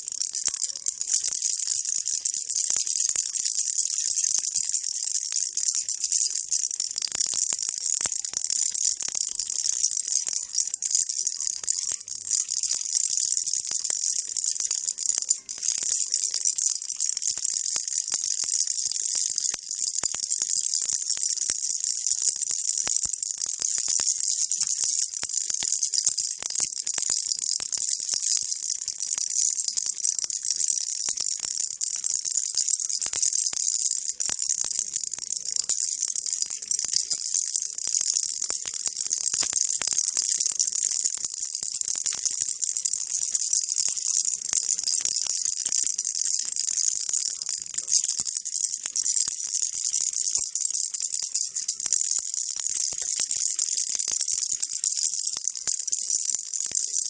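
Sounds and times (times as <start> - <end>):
baby rattle beads clicking: 0.0 - 57.0.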